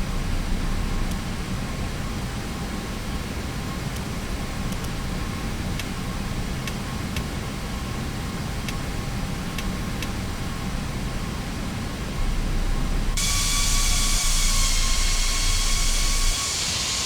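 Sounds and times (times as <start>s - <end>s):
aircraft cockpit rumble and hiss: 0.0s - 17.0s.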